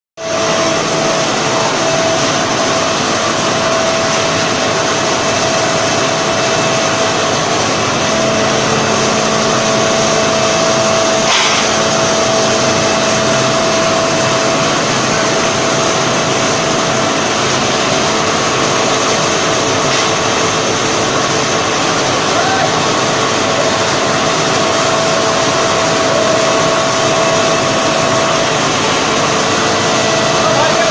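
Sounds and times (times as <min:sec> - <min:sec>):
blower rushing air with whine: 0:00.2 - 0:30.9.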